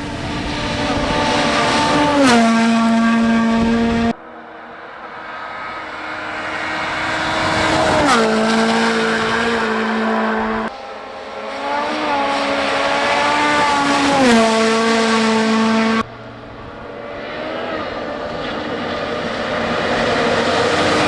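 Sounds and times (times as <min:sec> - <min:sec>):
rally cars passing at full speed: 0:00.0 - 0:21.0.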